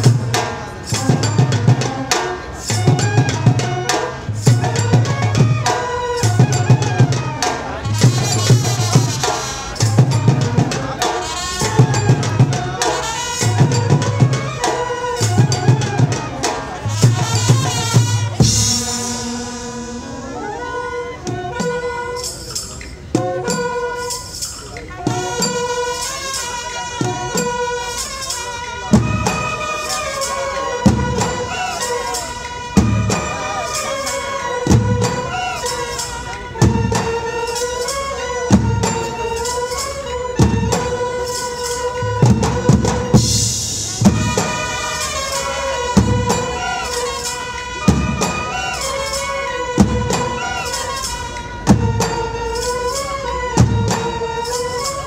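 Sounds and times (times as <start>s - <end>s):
brass band playing: 0.0s - 55.0s
heavy drum strokes: 0.0s - 55.0s
jingling percussion: 0.0s - 55.0s.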